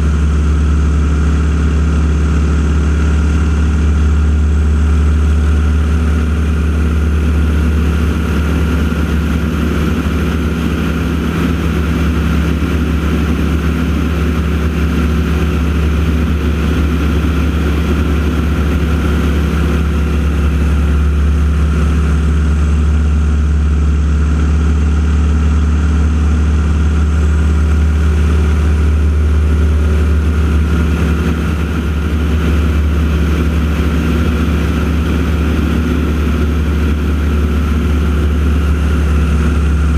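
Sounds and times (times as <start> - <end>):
engine droning: 0.0 - 39.9.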